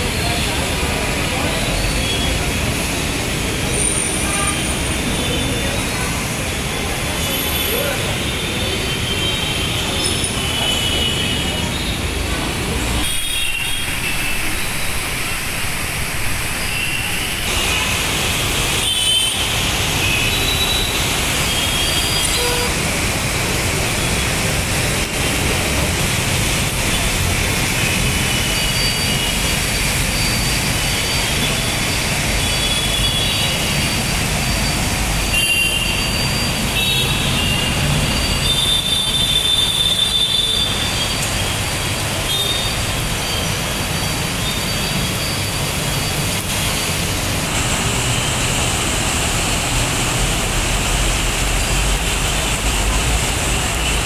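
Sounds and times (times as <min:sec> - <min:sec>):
tyres hissing on wet road: 0:00.0 - 0:54.0.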